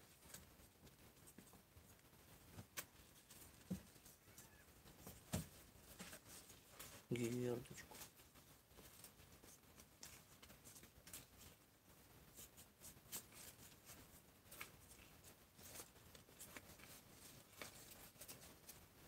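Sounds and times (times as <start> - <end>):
faint rustling in cardboard box: 0.0 - 19.0.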